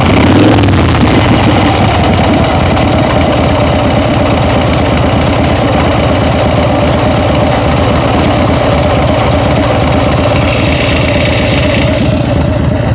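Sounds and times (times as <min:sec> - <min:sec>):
engine idling: 0:00.0 - 0:12.9
engine ticking: 0:00.0 - 0:12.9.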